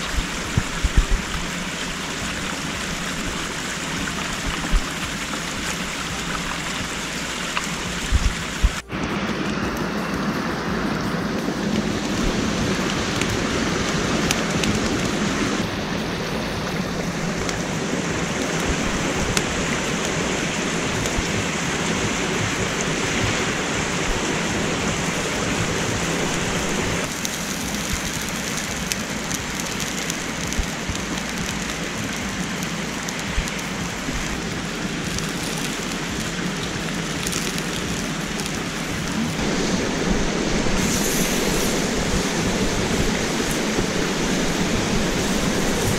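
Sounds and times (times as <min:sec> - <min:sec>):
campfire crackling: 0:00.0 - 0:45.9
stream rushing over rocks: 0:00.0 - 0:45.9.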